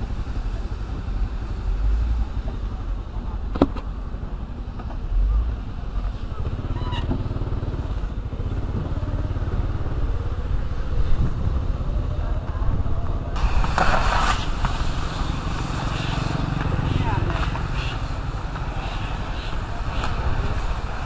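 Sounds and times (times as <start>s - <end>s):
motorcycle engine running: 0.0s - 13.7s, 14.5s - 21.0s
noisy rushing sound: 0.0s - 21.0s.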